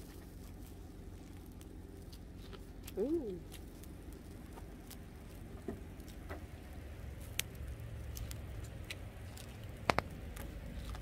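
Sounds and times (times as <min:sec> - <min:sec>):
chewing corn on the cob: 0:00.0 - 0:11.0.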